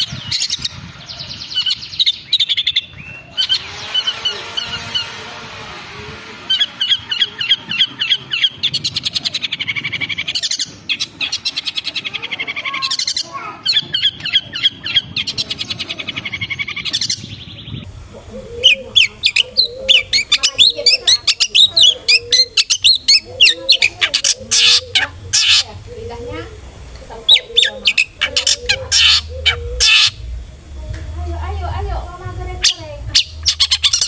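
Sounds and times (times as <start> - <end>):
bird chatter trills: 0.0 - 30.7, 31.3 - 34.0.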